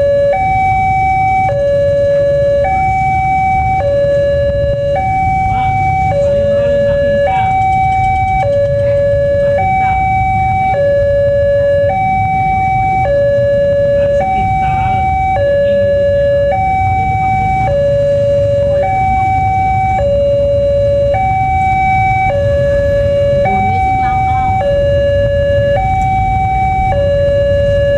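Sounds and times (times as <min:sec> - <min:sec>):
two-tone level crossing siren: 0:00.0 - 0:27.9
low rumble: 0:01.6 - 0:27.9.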